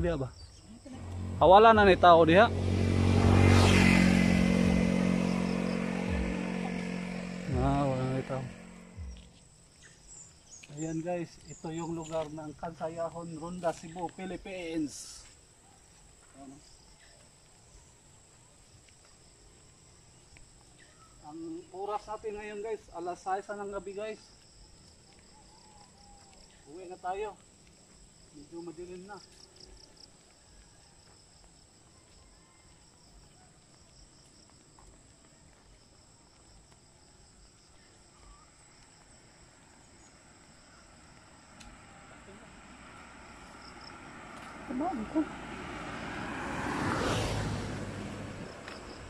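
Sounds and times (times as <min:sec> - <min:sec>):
insects chirring: 0:00.0 - 0:47.2, 0:48.4 - 0:49.0
crickets droning: 0:00.0 - 0:49.0.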